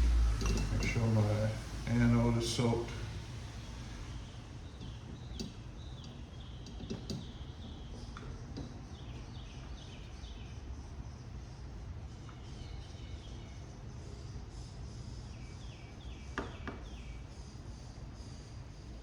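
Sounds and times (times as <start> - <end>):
low electrical hum: 0.0 - 19.0
small birds chirping: 0.0 - 19.0.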